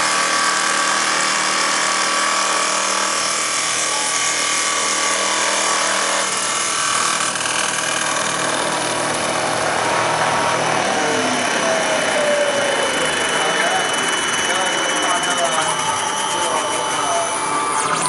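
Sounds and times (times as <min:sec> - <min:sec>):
wood lathe cutting: 0:00.0 - 0:18.0.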